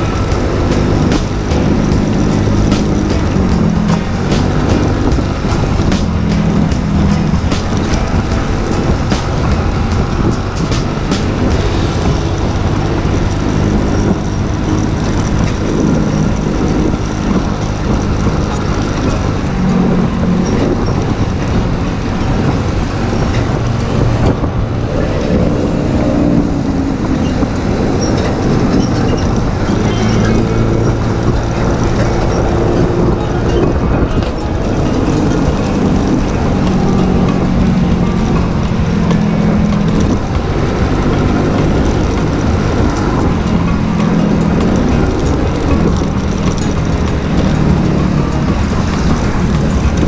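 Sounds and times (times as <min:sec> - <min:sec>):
road traffic: 0:00.0 - 0:50.0
scooter engine running: 0:00.0 - 0:50.0
wind on microphone: 0:00.0 - 0:50.0.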